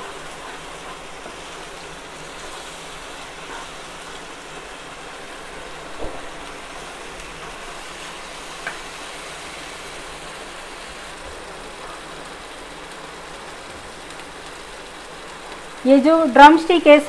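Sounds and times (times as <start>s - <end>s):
gravy sizzling in oil: 0.0s - 17.0s.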